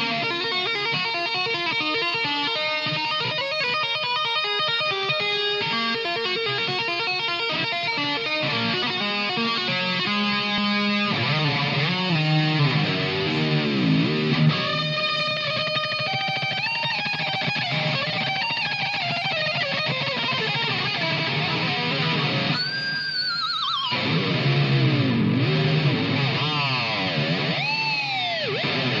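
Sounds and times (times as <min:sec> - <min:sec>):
distorted electric guitar solo: 0:00.0 - 0:29.0.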